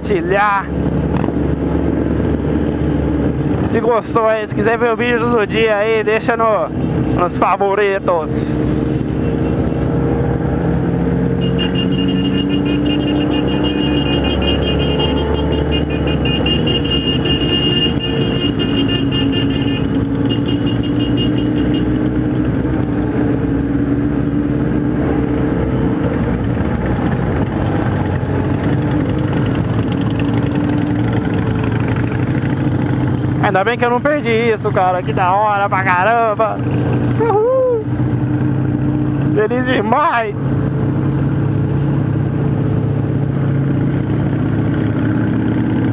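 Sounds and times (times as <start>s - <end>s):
motorcycle engines running: 0.0s - 45.9s.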